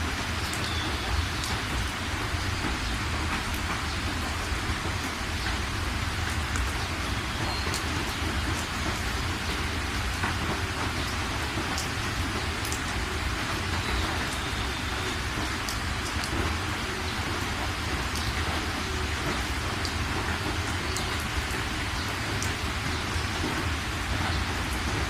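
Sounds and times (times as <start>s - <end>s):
rain falling: 0.0s - 25.0s
drips ticking: 0.1s - 25.0s.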